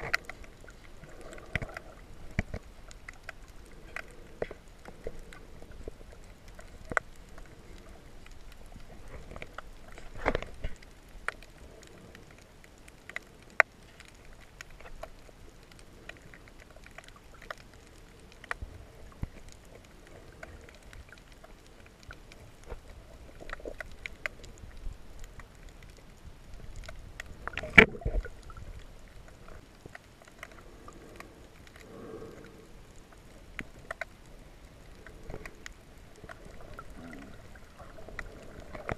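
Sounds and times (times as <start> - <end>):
muffled underwater water noise: 0.0 - 38.9.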